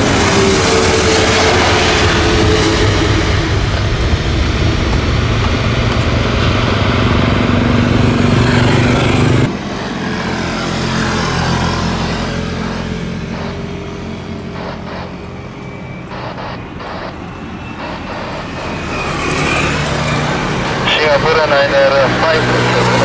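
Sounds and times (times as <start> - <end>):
jet engine roar: 0.0 - 23.0
steady low rumble: 1.6 - 10.4, 11.0 - 22.4.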